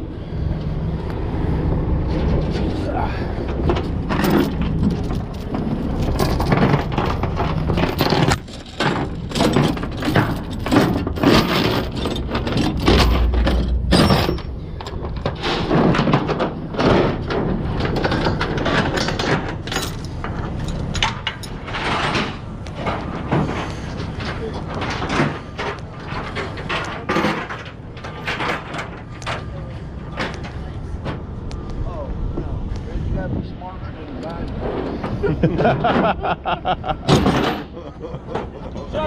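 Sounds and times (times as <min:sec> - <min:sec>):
low engine rumble: 0:00.0 - 0:39.0
sharp knocks and clanks: 0:03.4 - 0:31.3, 0:34.3 - 0:38.8.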